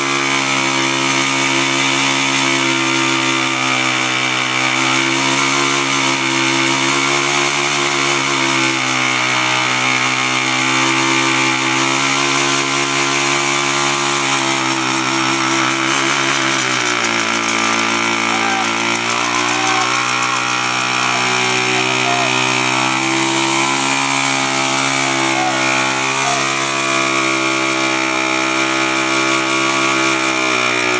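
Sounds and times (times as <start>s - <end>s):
motorbike engine revving high: 0.0s - 30.9s.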